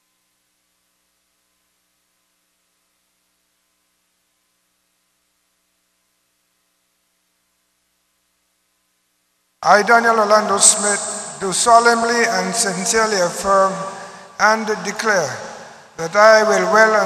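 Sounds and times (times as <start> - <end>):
faint electrical hum: 0.0 - 17.0
soft hiss: 0.0 - 17.0.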